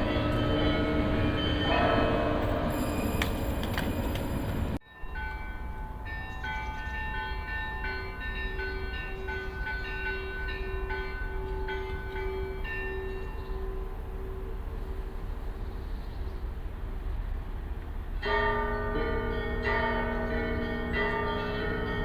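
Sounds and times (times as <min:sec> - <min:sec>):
lower bell tolling: 0:00.0 - 0:14.6, 0:18.2 - 0:22.0
dense clangour of church bells: 0:00.0 - 0:15.4, 0:18.1 - 0:22.0.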